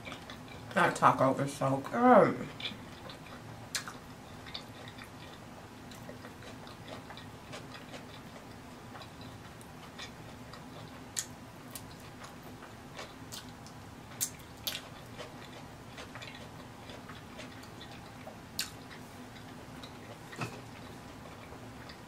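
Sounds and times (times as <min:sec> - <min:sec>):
faint low hum: 0:00.0 - 0:22.0
wet chewing mouth clicks: 0:02.6 - 0:22.0.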